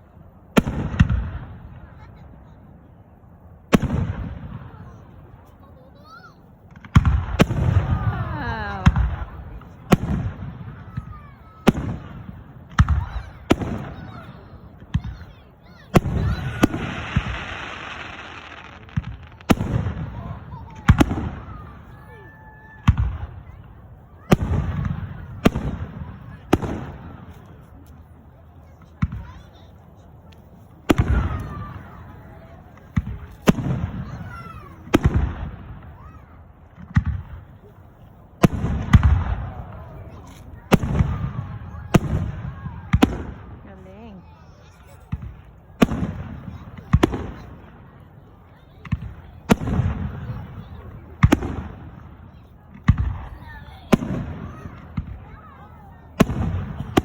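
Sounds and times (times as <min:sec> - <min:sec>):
fireworks bangs: 0:00.1 - 0:57.0.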